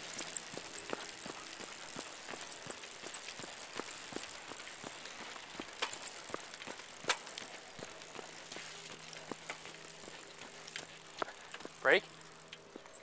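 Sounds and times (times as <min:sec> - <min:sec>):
bicycle rattling: 0:00.0 - 0:13.0
jogging footsteps: 0:00.0 - 0:13.0.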